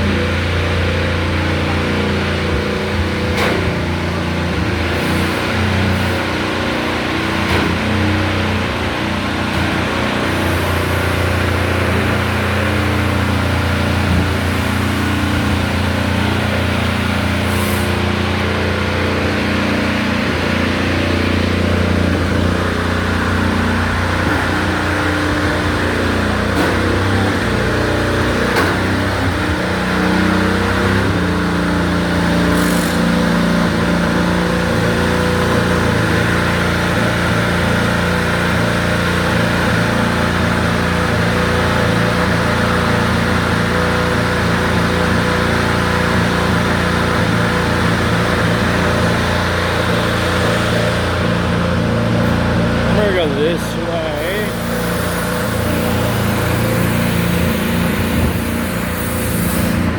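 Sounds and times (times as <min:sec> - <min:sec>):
race engine fast idle: 0:00.0 - 0:59.9.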